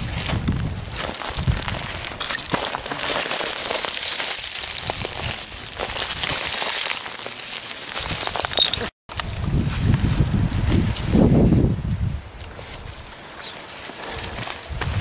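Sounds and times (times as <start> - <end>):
boots crunching on loose rock: 0.0 - 15.0.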